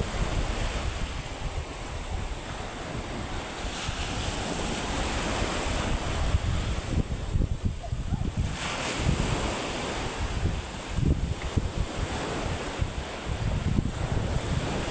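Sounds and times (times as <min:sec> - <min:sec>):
surf washing onto beach: 0:00.0 - 0:14.9
wind buffeting microphone: 0:00.0 - 0:14.9.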